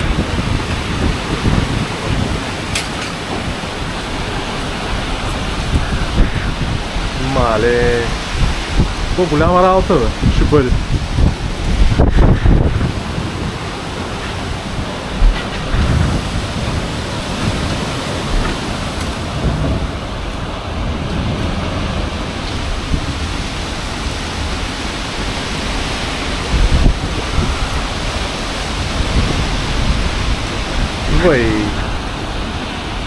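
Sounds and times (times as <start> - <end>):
storm wind buffeting microphone: 0.0 - 33.0.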